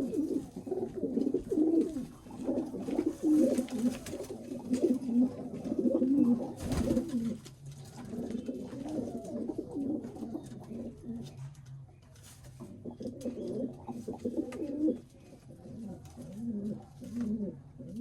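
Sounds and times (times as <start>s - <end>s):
pigeons cooing: 0.0s - 11.4s, 12.6s - 18.0s.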